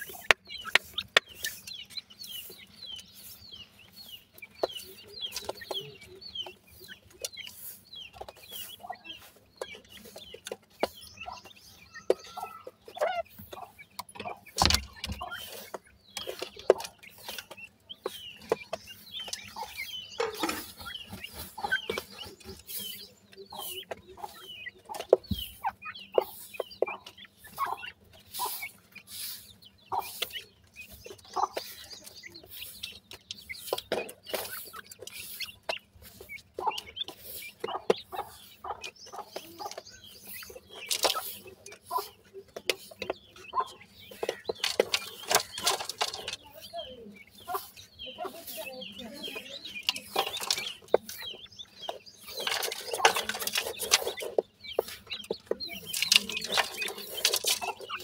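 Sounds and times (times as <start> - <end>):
chicks cheeping: 0.0 - 58.0
pecking and scratching in dry soil: 0.0 - 58.0.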